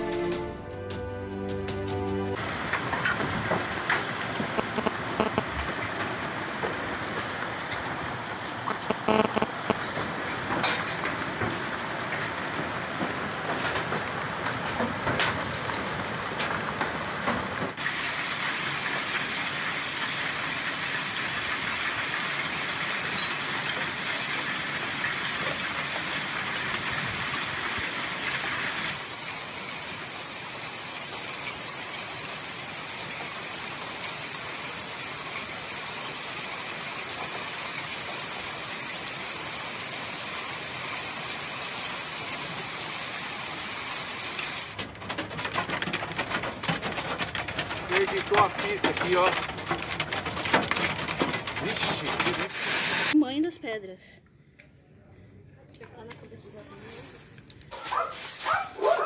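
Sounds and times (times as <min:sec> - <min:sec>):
hail and rain pelting ground: 0:01.6 - 0:53.8.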